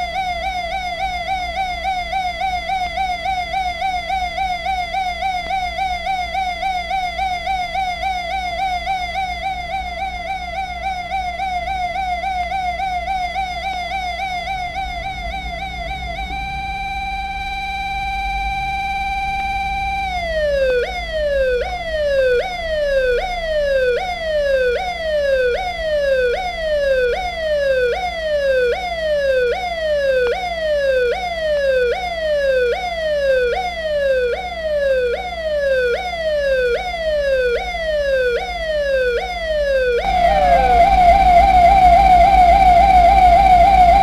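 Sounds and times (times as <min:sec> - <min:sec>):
electronic siren: 0:00.0 - 0:44.0.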